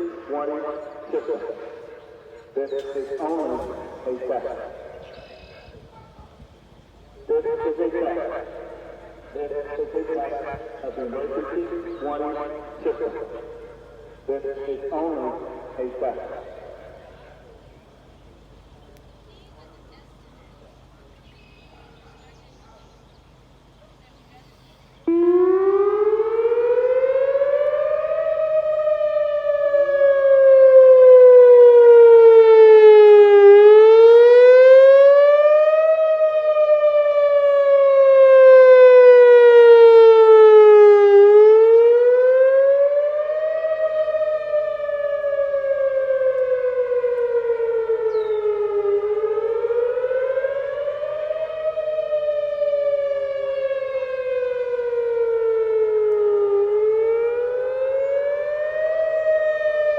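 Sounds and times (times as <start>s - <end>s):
warning siren wailing: 0.0s - 22.6s, 25.0s - 59.9s.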